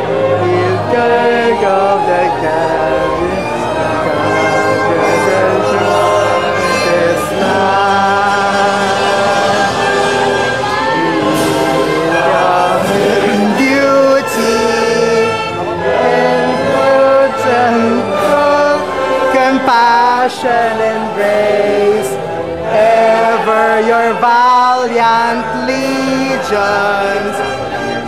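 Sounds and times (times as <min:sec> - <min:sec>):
choir singing a hymn: 0:00.0 - 0:28.0
instrumental accompaniment: 0:00.0 - 0:28.0.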